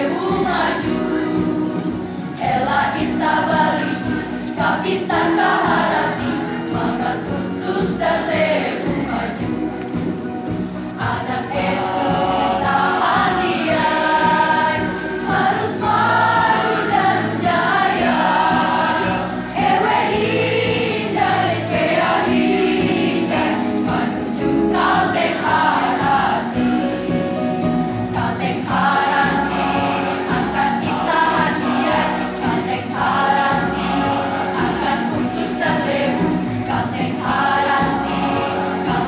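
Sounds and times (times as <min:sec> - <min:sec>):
choir singing: 0:00.0 - 0:26.9, 0:28.0 - 0:39.0.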